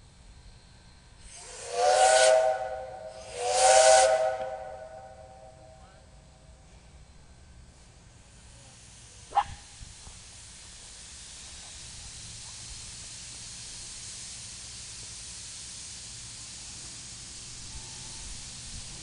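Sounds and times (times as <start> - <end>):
steam locomotive venting steam: 1.0 - 19.0.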